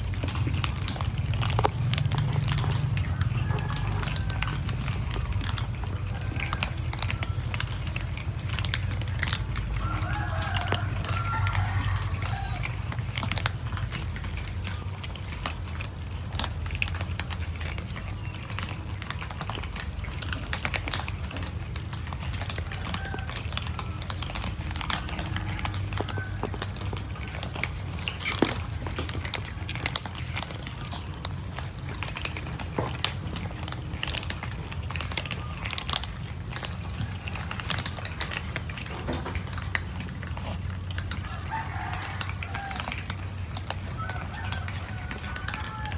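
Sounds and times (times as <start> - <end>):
cats crunching dry kibble: 0.0 - 45.9.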